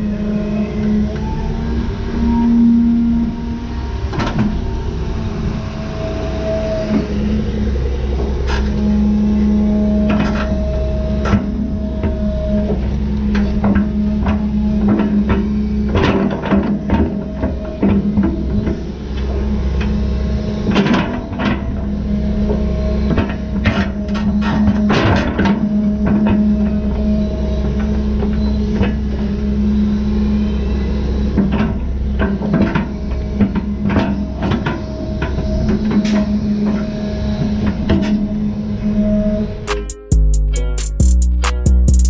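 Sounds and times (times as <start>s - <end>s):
hydraulic whine: 0.0s - 40.1s
excavator engine hum: 0.0s - 42.0s.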